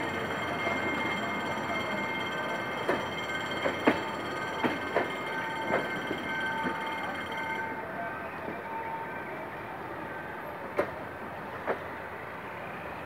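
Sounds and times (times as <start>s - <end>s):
train coaches rolling: 0.0s - 13.0s.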